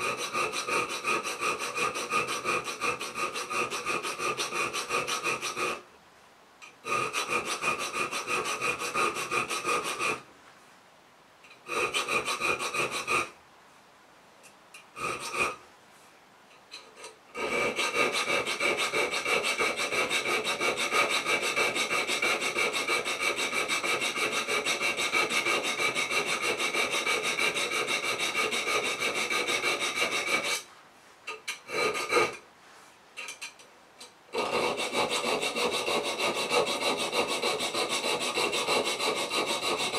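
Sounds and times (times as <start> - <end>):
file rasping on steel: 0.0 - 5.8, 6.6 - 10.3, 11.5 - 13.4, 14.8 - 15.6, 16.7 - 30.7, 31.3 - 32.4, 33.2 - 39.9.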